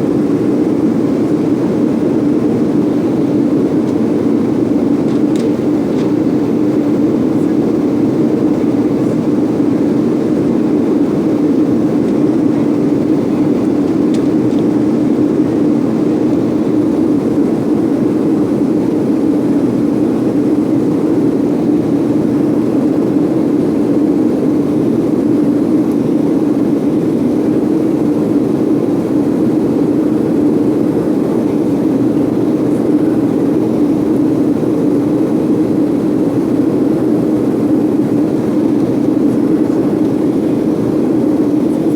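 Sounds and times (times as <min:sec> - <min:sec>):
jet engines roaring in cabin: 0:00.0 - 0:41.9.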